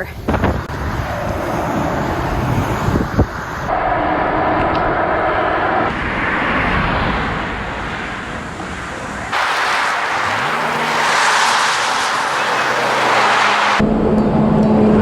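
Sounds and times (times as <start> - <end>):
road traffic going by: 0.0 - 15.0
wind rushing over microphone: 0.0 - 15.0.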